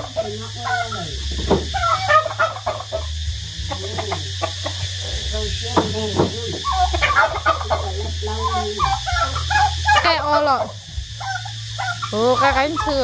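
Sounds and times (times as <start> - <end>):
chickens and turkeys clucking: 0.0 - 13.0
steady low hum: 0.0 - 13.0.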